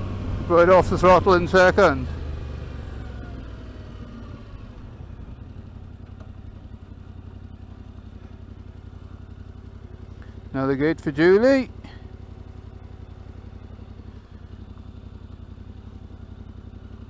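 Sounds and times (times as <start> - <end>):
motorcycle engine slowing to idle: 0.0 - 17.0.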